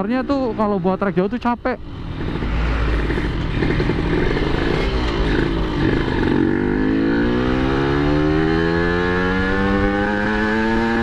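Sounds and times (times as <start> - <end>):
two-stroke motorcycle engine: 0.0 - 11.0.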